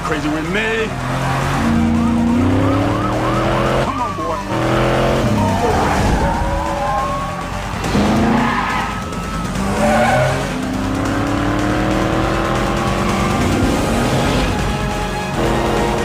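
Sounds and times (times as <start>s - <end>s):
film score: 0.0s - 16.0s
car engine revving hard: 0.4s - 6.5s, 7.3s - 16.0s.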